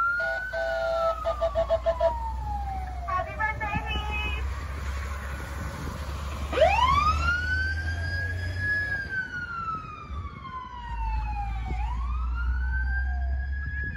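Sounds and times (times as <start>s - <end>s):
fire truck siren wailing: 0.0s - 13.9s
truck engine rumble: 0.0s - 13.9s.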